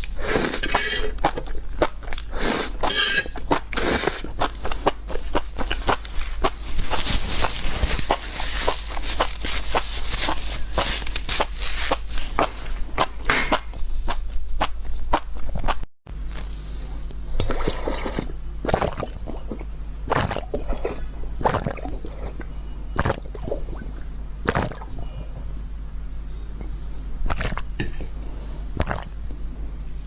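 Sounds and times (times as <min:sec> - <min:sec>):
crunching and chewing food: 0:00.0 - 0:25.6, 0:26.6 - 0:29.9
low hum: 0:00.0 - 0:30.0.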